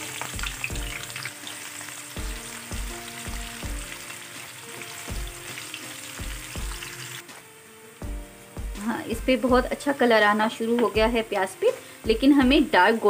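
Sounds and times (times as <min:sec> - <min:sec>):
background music with steady beat: 0:00.0 - 0:12.9
onions sizzling in hot oil: 0:00.0 - 0:13.0.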